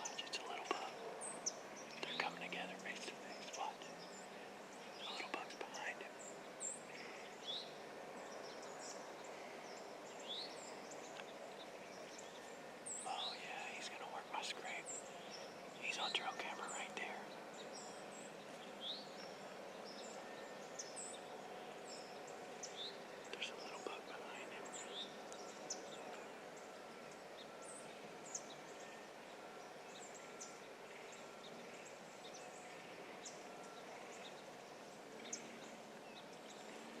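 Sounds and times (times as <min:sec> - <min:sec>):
bird chirps: 0:00.0 - 0:36.8
steady low hiss: 0:00.0 - 0:37.0.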